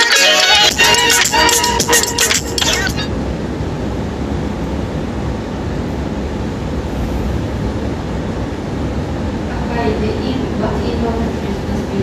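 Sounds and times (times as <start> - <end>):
train rumbling inside carriage: 1.9 - 12.0.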